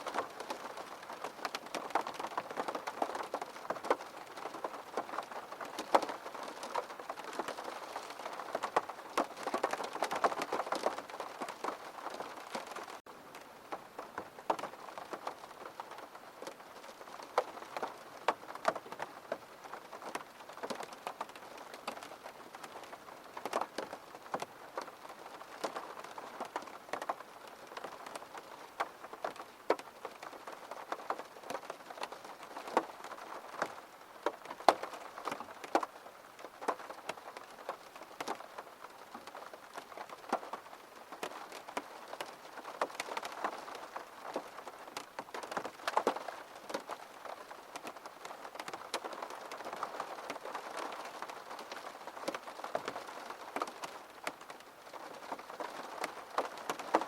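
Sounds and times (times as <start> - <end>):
raindrops tapping: 0.0 - 57.0
steady rain: 0.0 - 57.0.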